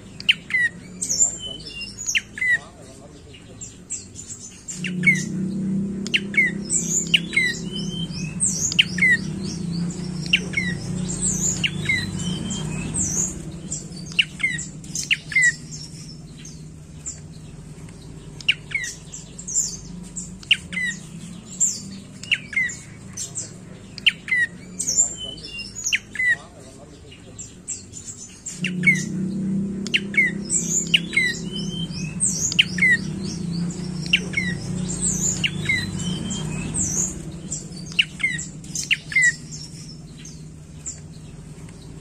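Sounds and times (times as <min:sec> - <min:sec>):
squeaky bird notes: 0:03.7 - 0:26.7, 0:27.5 - 0:42.0
bird calling sharp notes: 0:03.8 - 0:26.7, 0:27.5 - 0:41.2.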